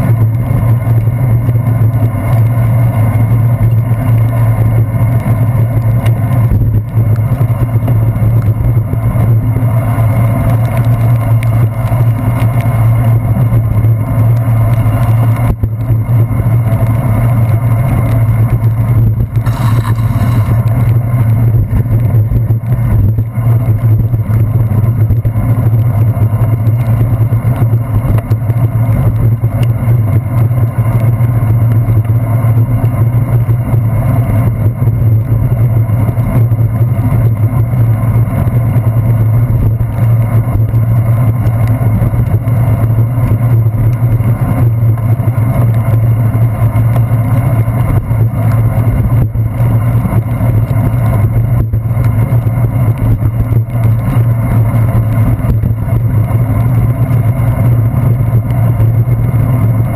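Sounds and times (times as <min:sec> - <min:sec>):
bicycle rumbling on wet pavement: 0:00.0 - 0:59.9
rain: 0:00.0 - 0:59.9.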